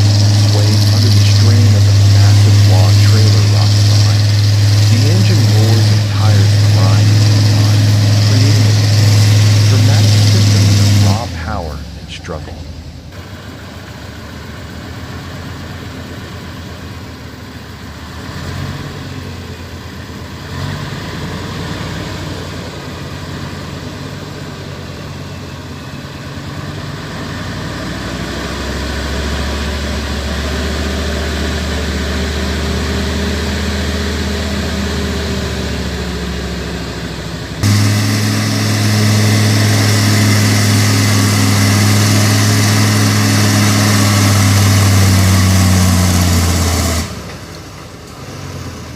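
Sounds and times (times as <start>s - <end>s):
truck engine running under load: 0.0s - 48.9s.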